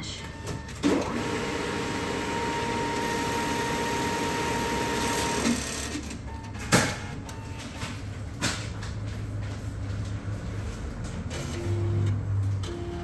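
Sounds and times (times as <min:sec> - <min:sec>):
cash dispenser whirring: 0:00.0 - 0:08.8, 0:10.1 - 0:13.0.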